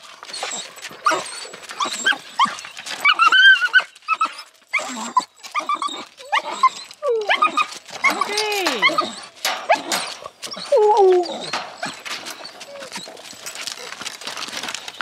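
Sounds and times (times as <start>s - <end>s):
dog whining and yelping: 0.0s - 15.0s.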